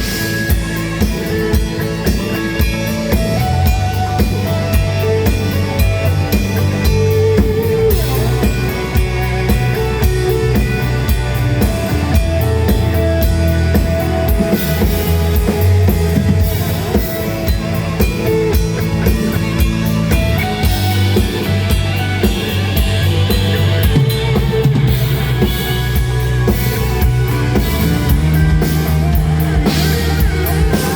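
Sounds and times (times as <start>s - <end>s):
drum kit beat: 0.0s - 30.9s
electric guitar: 0.0s - 30.9s
rock band playing live: 0.0s - 30.9s.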